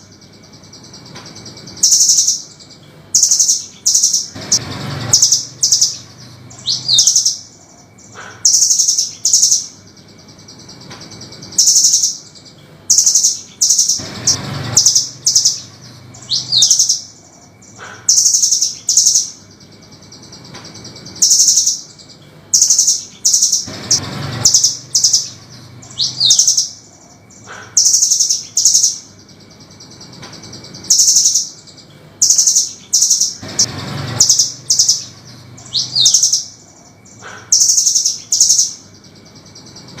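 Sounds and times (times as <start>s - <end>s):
nuthatch calling: 0.0s - 40.0s.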